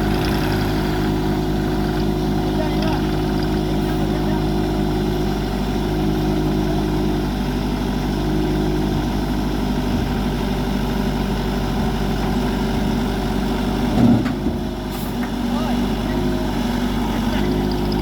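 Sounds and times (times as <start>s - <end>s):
heavy machine engine running: 0.0s - 18.0s.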